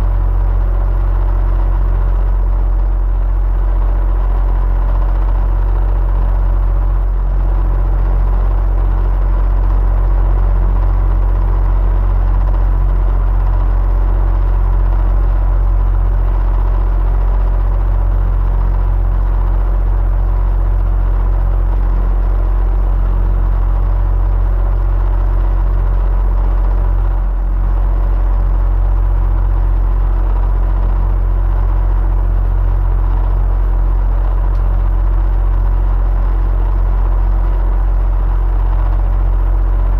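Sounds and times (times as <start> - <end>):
electric fan humming: 0.0 - 39.9.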